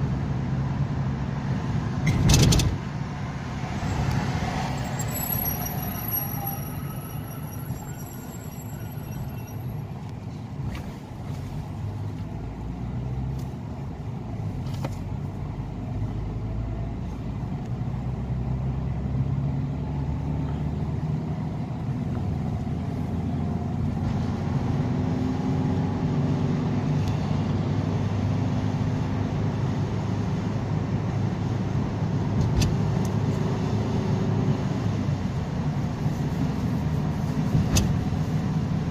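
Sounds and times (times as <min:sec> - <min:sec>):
car engine and tyre noise: 0:00.0 - 0:38.9.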